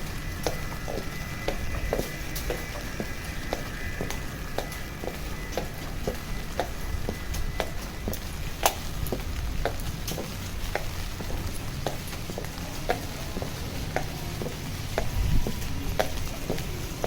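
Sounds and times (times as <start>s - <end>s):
footsteps on wet pavement: 0.0s - 17.0s
low city rumble: 0.0s - 17.0s.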